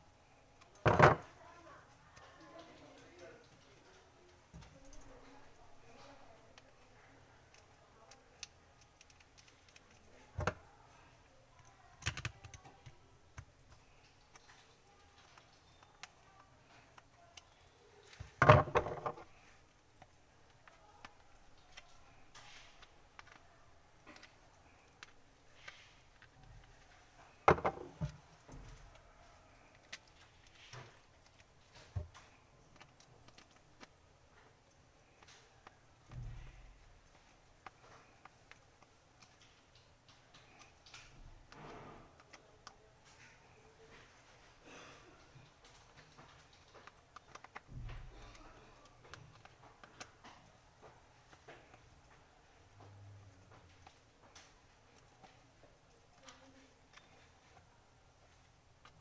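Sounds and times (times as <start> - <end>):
faint clicks and taps: 0.5 - 59.0.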